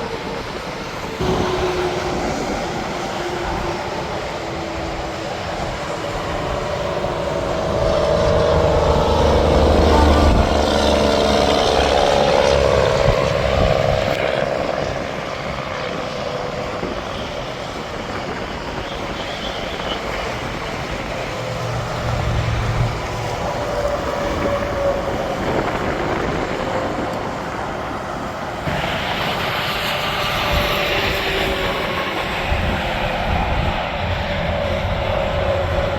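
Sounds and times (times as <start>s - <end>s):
heavy trucks passing: 0.0s - 35.9s
traffic hiss: 0.0s - 35.9s.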